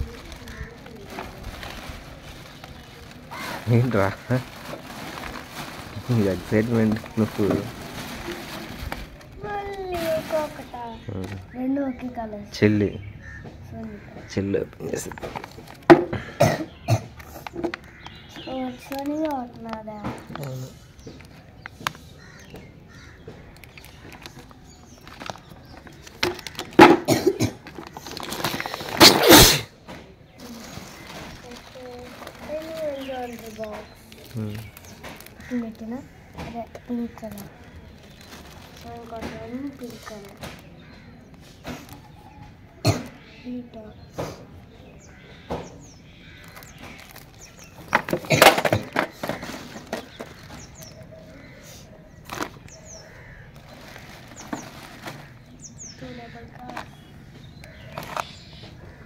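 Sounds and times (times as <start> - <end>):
plastic packaging crinkling: 0.0 - 11.3, 15.0 - 16.0, 17.3 - 29.4, 30.4 - 42.1, 46.3 - 51.6, 52.2 - 59.0
plastic crackles and knocks: 0.0 - 11.6, 13.3 - 16.3, 17.1 - 29.2, 29.8 - 43.2, 45.4 - 51.6, 52.2 - 59.0.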